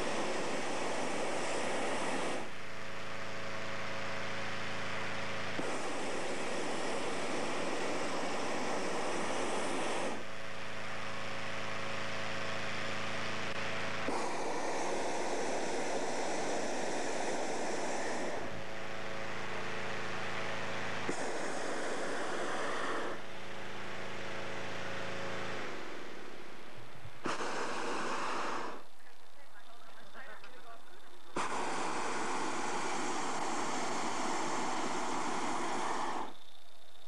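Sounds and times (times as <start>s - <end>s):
inflator fan humming: 0.0s - 37.0s
propane burner roaring: 0.0s - 37.0s.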